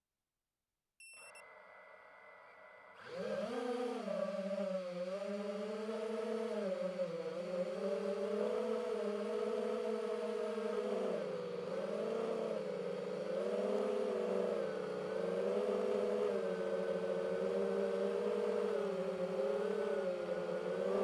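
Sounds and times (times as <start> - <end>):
drone propellers whining: 1.5 - 21.0.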